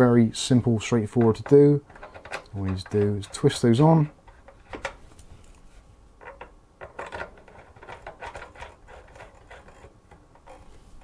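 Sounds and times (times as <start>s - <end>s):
antennas clicking and scraping: 1.1s - 11.0s.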